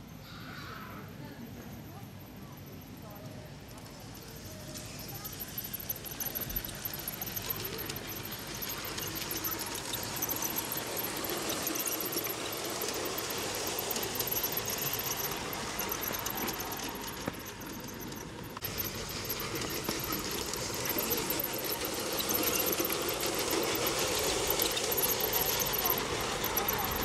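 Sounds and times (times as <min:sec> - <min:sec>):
model train running on track: 0:01.1 - 0:27.0.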